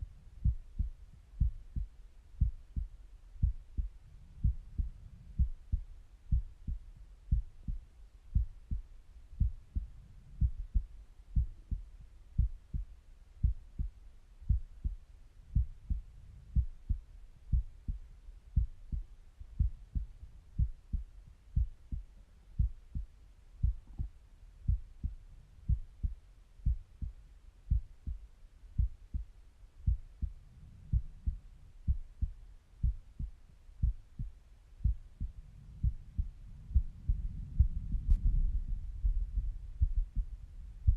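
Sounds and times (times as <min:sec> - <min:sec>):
heartbeat through stethoscope: 0:00.2 - 0:40.9.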